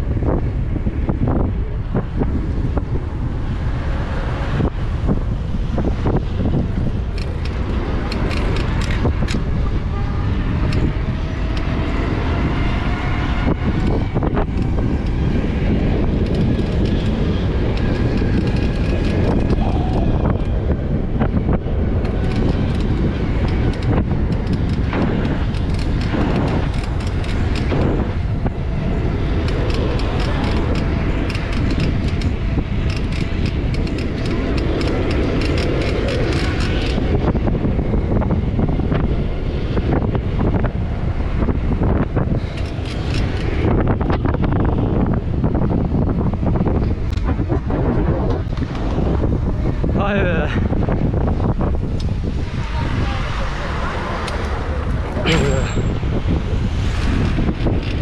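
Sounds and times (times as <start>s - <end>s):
bike rolling on asphalt: 0.0s - 58.0s
road traffic hum: 0.0s - 58.0s
wind rushing over microphone: 0.0s - 58.0s.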